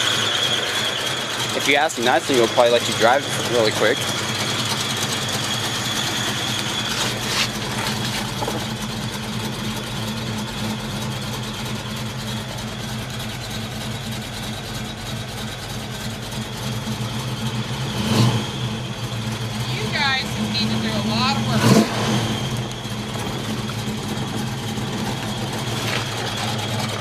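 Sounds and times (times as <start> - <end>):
car engine idling with a lope: 0.0 - 27.0.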